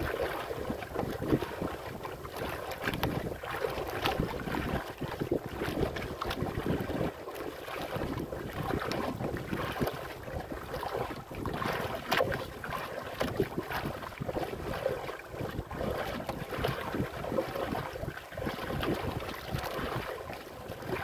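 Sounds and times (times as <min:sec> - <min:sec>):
waves splashing against boat hull: 0:00.0 - 0:21.0
wind buffeting microphone: 0:00.0 - 0:21.0.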